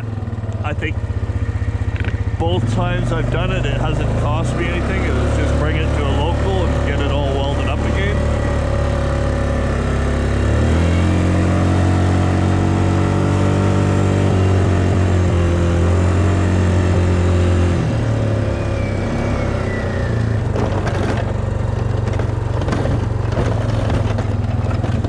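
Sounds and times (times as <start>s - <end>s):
atv engine running: 0.0s - 25.0s
plow blade scraping snow: 0.0s - 25.0s.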